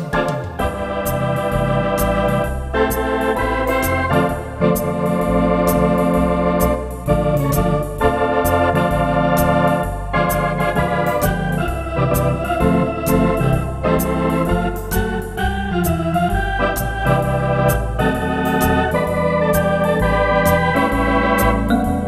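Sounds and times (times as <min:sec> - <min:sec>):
electronic organ chords: 0:00.0 - 0:22.0
organ pedal bass line: 0:00.0 - 0:22.0.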